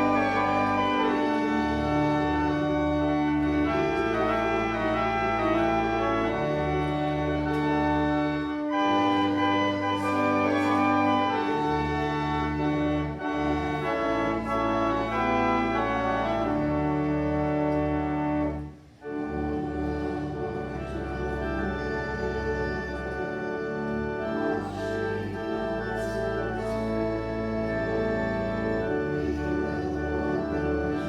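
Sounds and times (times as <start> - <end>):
church organ playing a hymn: 0.0 - 31.0.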